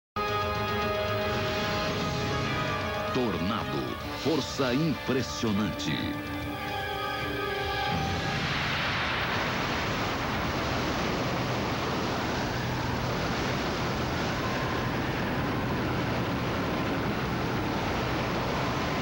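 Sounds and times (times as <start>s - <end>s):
tornado wind rushing: 0.8s - 5.1s, 6.8s - 19.0s.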